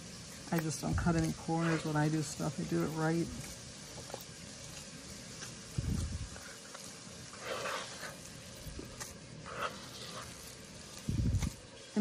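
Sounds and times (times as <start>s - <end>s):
hand squishing wet meat mix: 0.0s - 12.0s.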